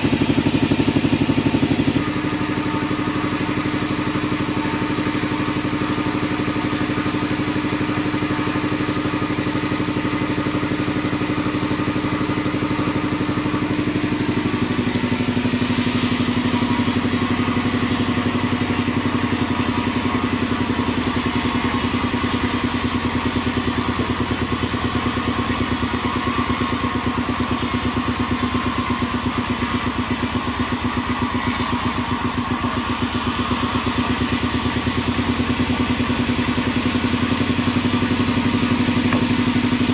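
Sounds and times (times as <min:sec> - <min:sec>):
band sawmill humming: 0:00.0 - 0:39.9.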